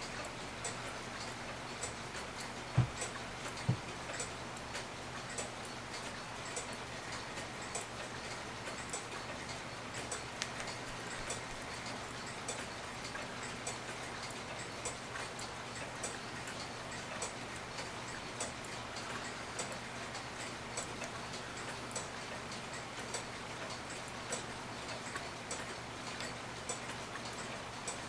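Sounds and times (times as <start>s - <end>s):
clock ticking: 0.0s - 28.0s.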